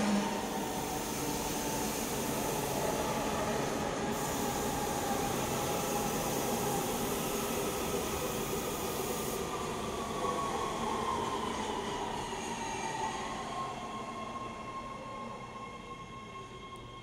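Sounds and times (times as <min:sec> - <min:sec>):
high train whine: 0:00.0 - 0:17.0.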